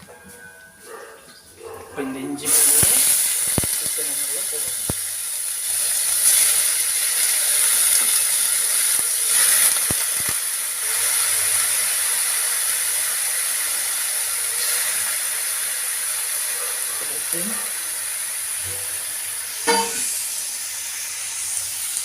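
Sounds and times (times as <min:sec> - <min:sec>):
chicken sizzling in hot oil: 0:02.4 - 0:22.0.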